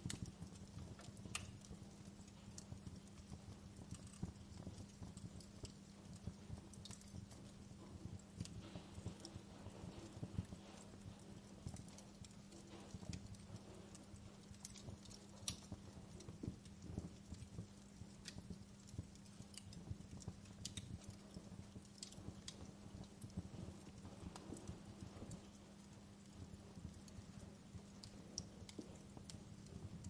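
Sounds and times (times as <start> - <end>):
faint low hum: 0.0 - 30.0
wood fire crackling and popping: 0.0 - 30.0.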